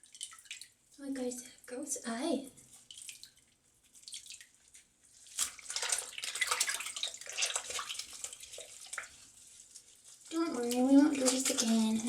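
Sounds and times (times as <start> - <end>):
water splashing in a sink: 0.0 - 1.1, 2.6 - 12.0
faint water drips: 0.0 - 12.0.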